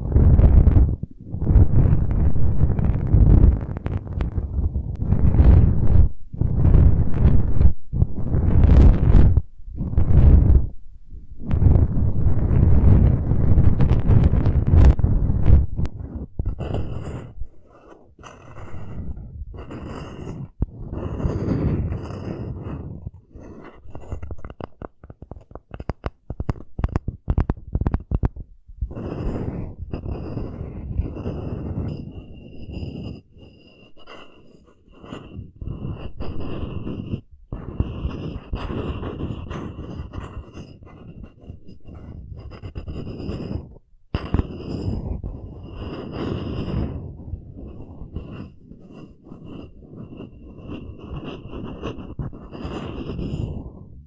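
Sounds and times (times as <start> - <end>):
scratching on wood: 0.0 - 53.8.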